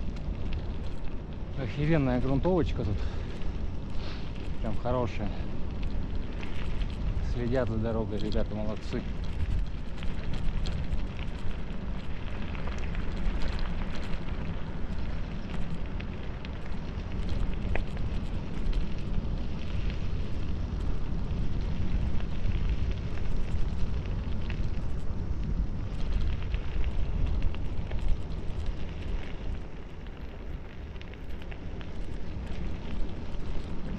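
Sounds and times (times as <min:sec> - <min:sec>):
bicycle tyres rolling on dirt: 0:00.0 - 0:33.9
gravel ticks and rattles: 0:00.0 - 0:33.9
wind buffeting microphone: 0:00.0 - 0:33.9.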